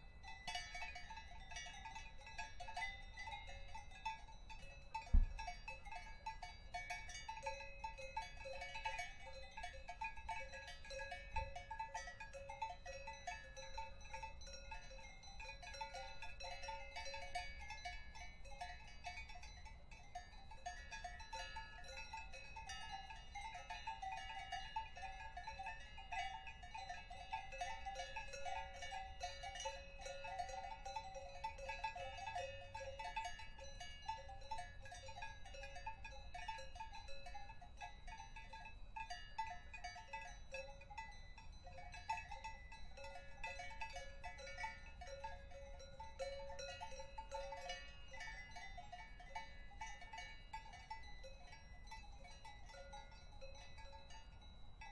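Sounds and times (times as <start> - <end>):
cowbells clanking: 0.0 - 54.9.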